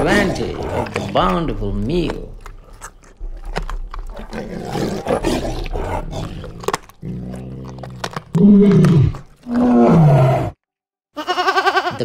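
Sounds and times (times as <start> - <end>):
crunching tearing eating noises: 0.0 - 10.2
tiger growling: 0.0 - 10.6
tiger roaring: 0.0 - 10.6.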